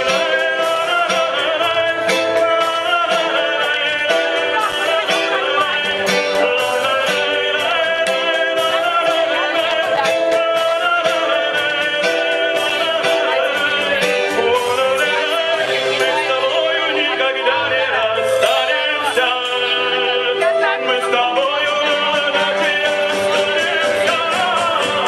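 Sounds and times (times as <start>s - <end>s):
man singing: 0.0s - 25.0s.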